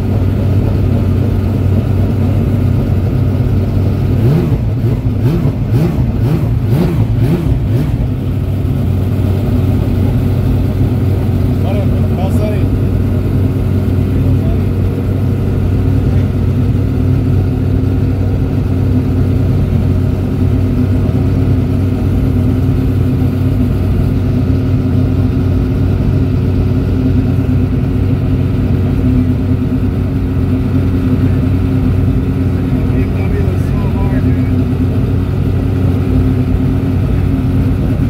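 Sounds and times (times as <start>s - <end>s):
race car engine idling: 0.0s - 38.0s.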